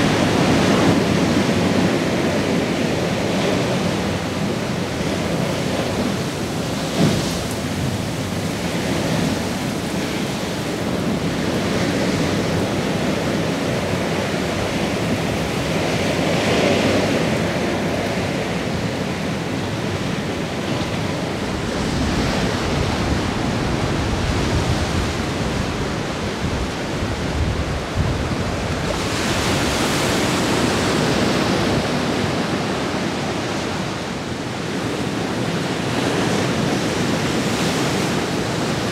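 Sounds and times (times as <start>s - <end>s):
ocean surf breaking on rocks: 0.0s - 38.9s
wind rumbling on microphone: 0.0s - 38.9s.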